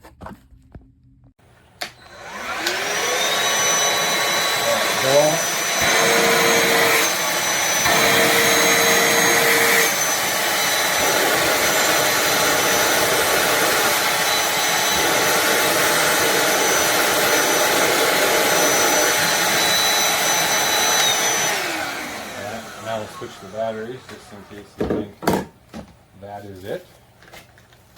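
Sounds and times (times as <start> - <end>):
handheld vacuum cleaner whine: 1.7 - 25.0.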